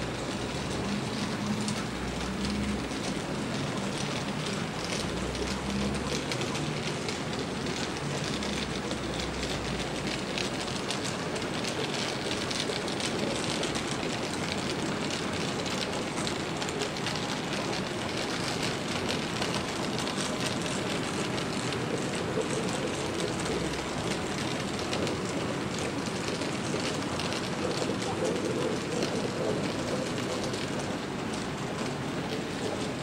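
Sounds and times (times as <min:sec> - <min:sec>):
model trains rumbling on track: 0:00.0 - 0:33.0.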